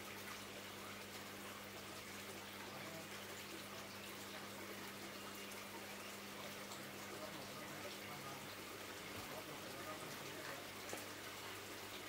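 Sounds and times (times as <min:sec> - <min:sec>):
aquarium water bubbling: 0:00.0 - 0:12.0
pump humming: 0:00.0 - 0:12.0.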